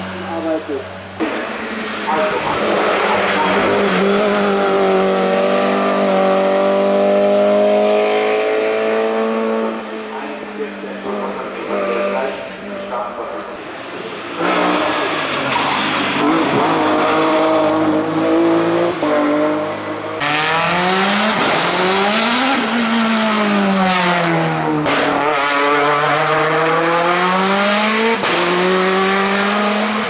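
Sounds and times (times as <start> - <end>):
race car engines at full throttle: 0.0 - 30.0.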